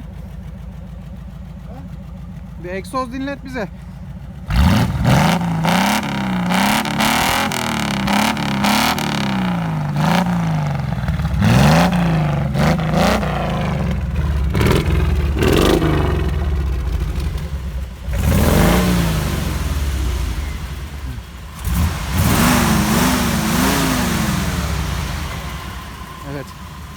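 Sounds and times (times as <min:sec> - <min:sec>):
engine revving through exhaust: 0:04.4 - 0:26.9.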